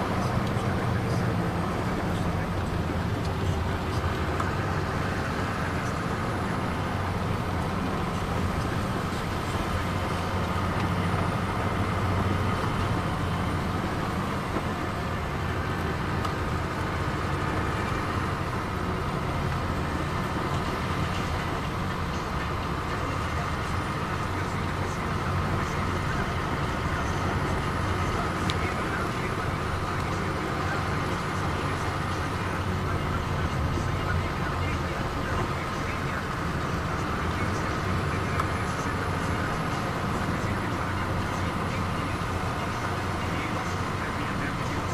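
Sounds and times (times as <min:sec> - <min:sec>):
car engine and tyre noise: 0:00.0 - 0:44.9.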